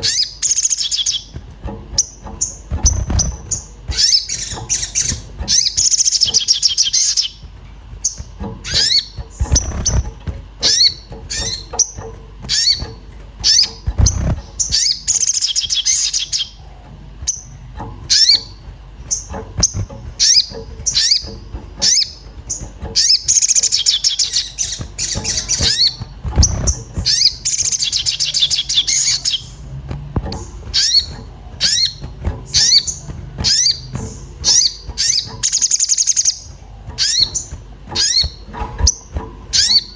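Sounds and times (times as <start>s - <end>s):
bird sharp high chirps and trills: 0.0s - 16.6s, 17.2s - 29.6s, 30.4s - 39.9s
low thumps: 1.0s - 39.9s.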